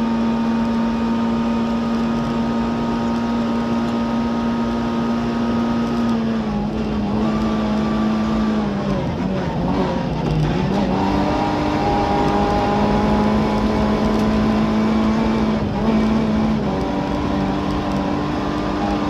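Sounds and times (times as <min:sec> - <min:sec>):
car engine at high revs: 0:00.0 - 0:19.0
road and tyre noise: 0:00.0 - 0:19.0.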